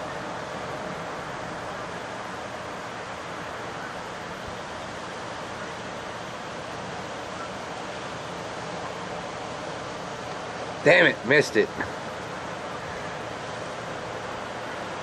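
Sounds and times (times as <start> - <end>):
ocean surf: 0.0 - 15.0.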